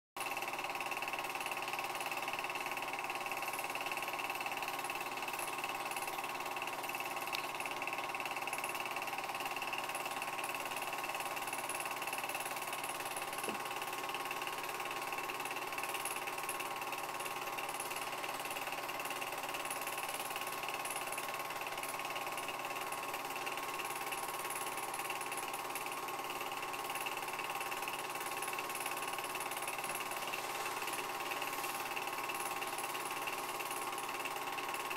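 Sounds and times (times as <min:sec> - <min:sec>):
film projector whirring and clattering: 0:00.2 - 0:34.9.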